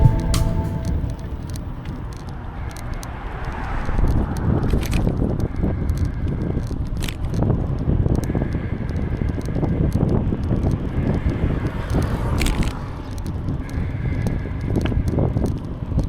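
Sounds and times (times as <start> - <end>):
wind rumbling on microphone: 0.0 - 16.0
bicycle tyre noise: 1.4 - 16.0
bike clicks and rattles: 2.7 - 16.0.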